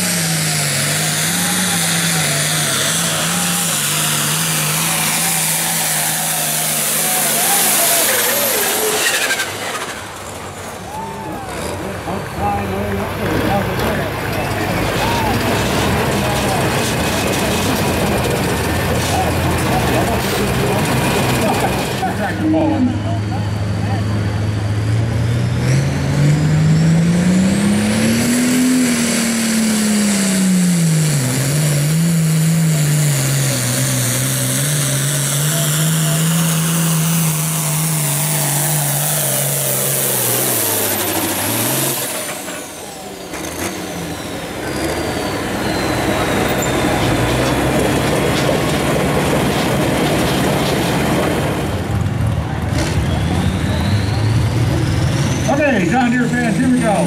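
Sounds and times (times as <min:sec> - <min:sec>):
tractor diesel engine at full throttle: 0:00.0 - 0:57.0.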